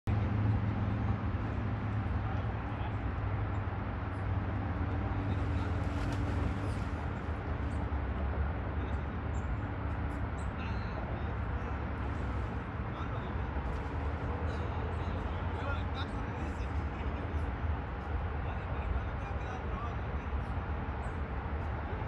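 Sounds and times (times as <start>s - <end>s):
steady low rumble: 0.0s - 22.0s
faint hum: 0.1s - 22.0s.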